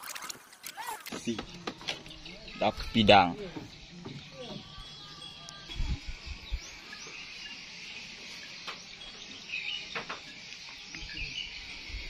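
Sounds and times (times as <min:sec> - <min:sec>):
birds chirping: 0:00.8 - 0:12.0
insects buzzing: 0:01.2 - 0:12.0.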